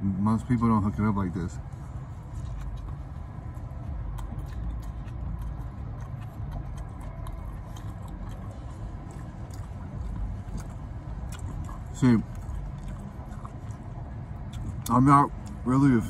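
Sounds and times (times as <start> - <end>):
low vehicle cabin rumble: 0.0 - 16.0
chewing mouth sounds: 1.8 - 16.0.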